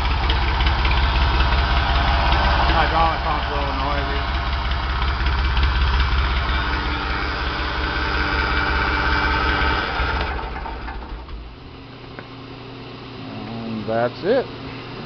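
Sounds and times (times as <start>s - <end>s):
engine running down to stop: 0.0s - 12.2s
diesel tractor engine idling: 0.0s - 12.4s.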